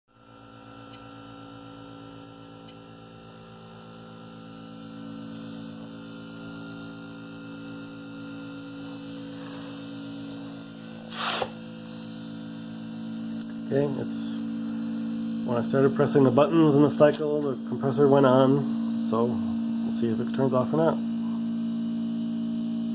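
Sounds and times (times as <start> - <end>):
compressor humming: 0.1 - 22.9.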